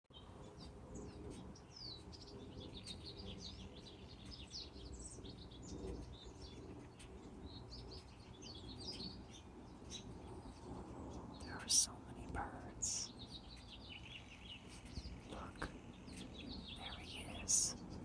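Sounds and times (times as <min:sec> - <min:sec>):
flock of small birds chirping: 0:00.1 - 0:18.0
low background rumble: 0:00.9 - 0:18.0.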